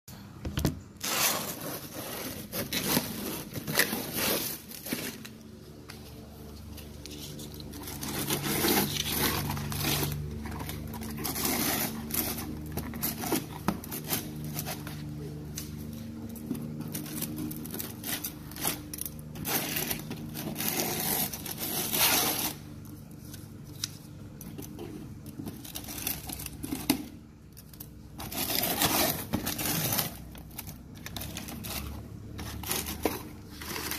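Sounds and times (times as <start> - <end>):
steady low hum: 0.1 - 33.9
cardboard and paper rustling: 0.6 - 33.9
packing tape tearing: 1.0 - 33.9.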